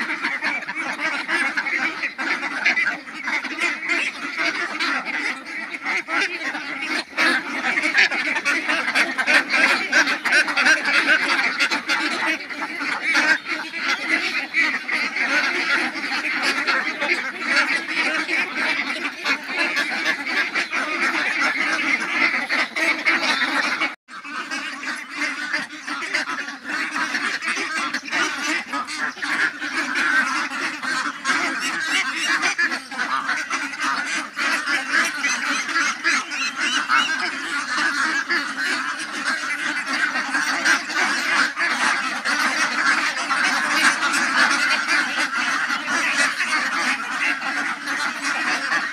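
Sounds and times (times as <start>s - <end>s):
ducks quacking: 0.0s - 48.9s.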